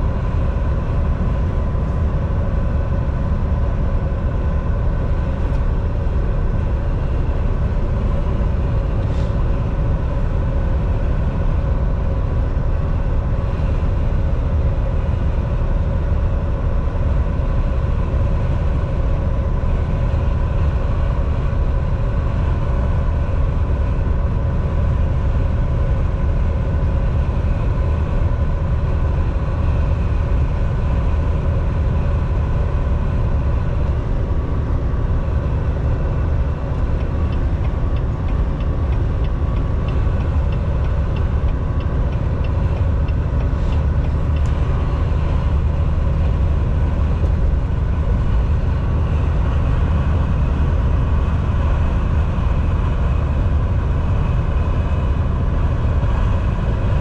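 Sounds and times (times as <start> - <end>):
truck engine and road noise: 0.0 - 57.0.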